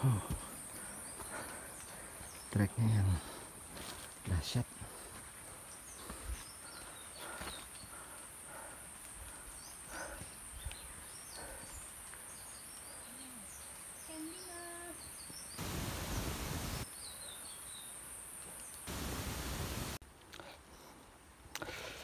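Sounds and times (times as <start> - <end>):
small birds chirping: 0.0 - 19.1
steady high-pitched hiss: 0.0 - 22.0.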